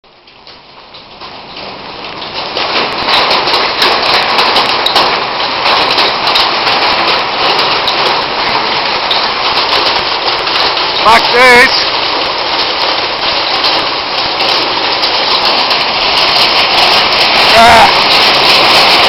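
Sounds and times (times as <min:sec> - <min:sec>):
heavy rain pouring: 0:00.0 - 0:19.0
raindrops ticking: 0:00.0 - 0:19.0.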